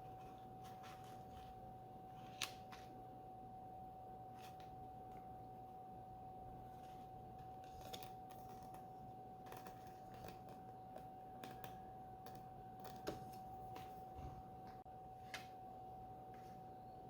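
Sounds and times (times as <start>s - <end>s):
high-pitched electrical hum: 0.0s - 17.0s.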